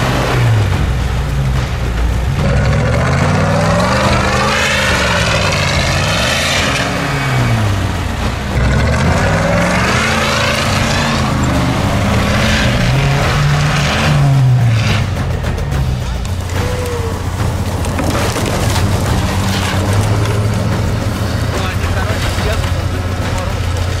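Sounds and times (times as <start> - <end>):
engine whine: 0.0 - 24.0
off-road vehicle engine revving: 0.0 - 24.0.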